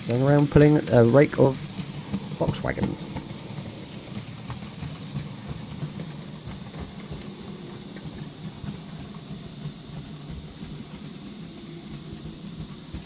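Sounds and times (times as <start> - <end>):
model train motor hum: 0.0 - 13.0
wheel rumble: 0.0 - 13.0.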